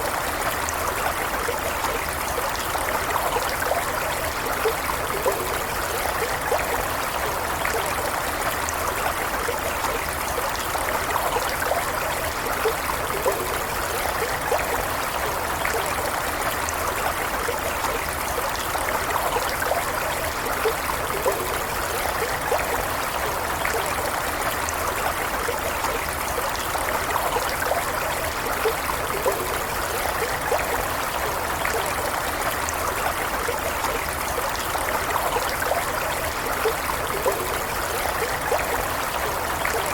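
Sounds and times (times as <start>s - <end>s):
stream water flowing: 0.0s - 39.9s
water splashes and bubbling: 0.0s - 39.9s.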